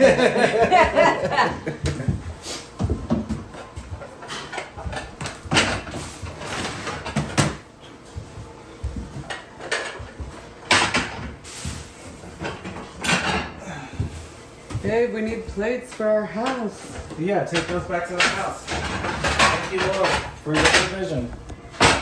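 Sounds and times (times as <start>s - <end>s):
cabinet doors and dishes clattering: 0.0s - 22.0s.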